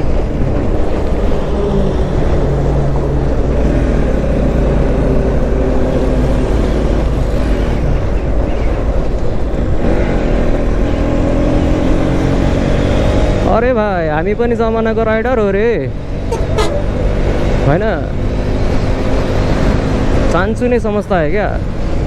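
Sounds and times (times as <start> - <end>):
motorcycle engine at speed: 0.0 - 22.0
traffic: 0.0 - 22.0.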